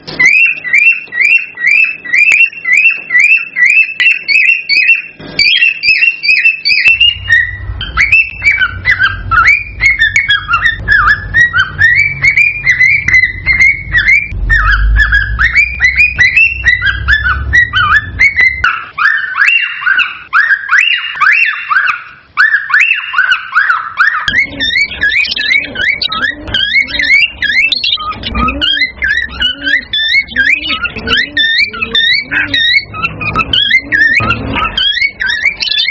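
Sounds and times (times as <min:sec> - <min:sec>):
cockatiels chirping and whistling: 0:00.0 - 0:35.9.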